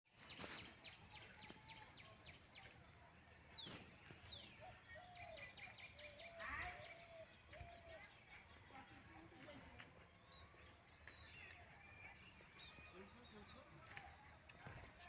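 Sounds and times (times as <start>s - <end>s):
birdsong chirps and whistles: 0.1s - 15.0s.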